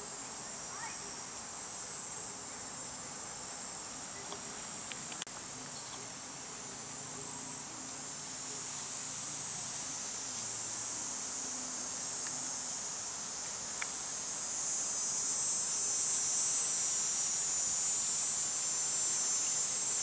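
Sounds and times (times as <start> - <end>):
high-pitched insect chorus trilling: 0.0 - 20.0.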